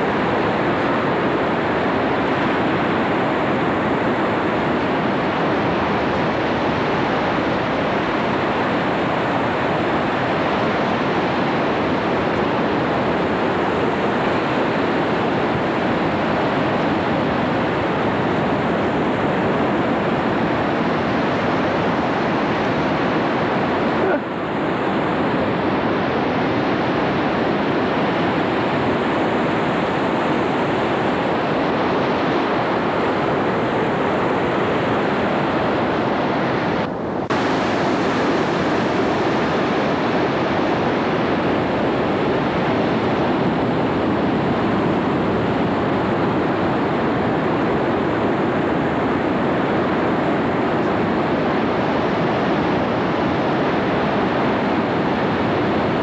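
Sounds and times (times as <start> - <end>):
ocean surf on rocky shore: 0.0 - 56.0.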